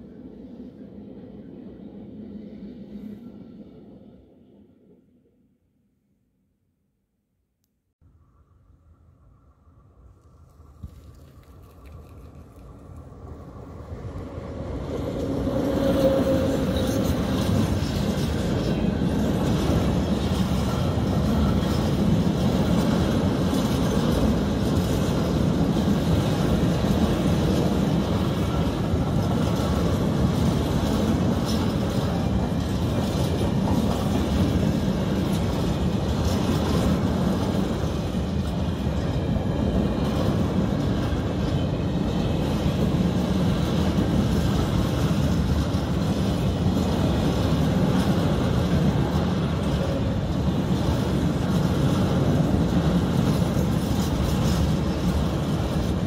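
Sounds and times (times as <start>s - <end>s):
train wheels rumbling on rails: 10.1s - 56.0s.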